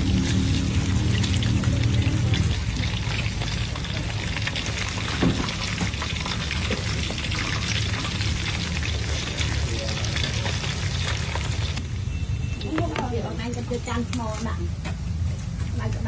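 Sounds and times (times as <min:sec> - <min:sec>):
food sizzling in hot oil: 0:00.0 - 0:14.4.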